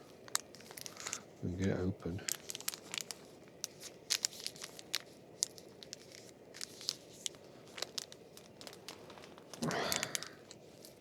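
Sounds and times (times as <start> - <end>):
sachet tearing and crinkling: 0.0 - 11.0.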